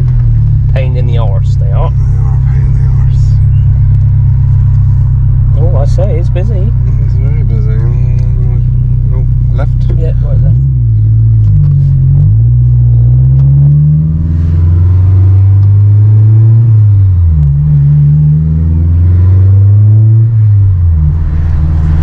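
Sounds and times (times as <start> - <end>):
car engine from inside cabin: 0.0 - 22.0.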